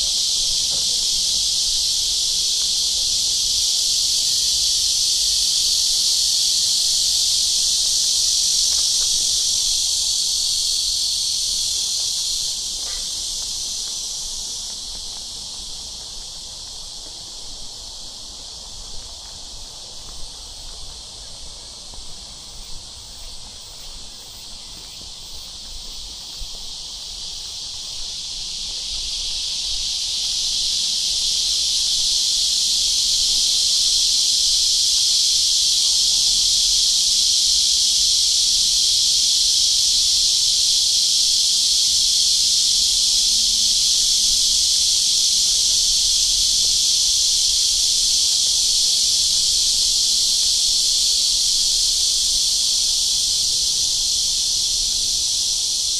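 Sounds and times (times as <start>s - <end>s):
cicadas buzzing: 0.0s - 55.9s.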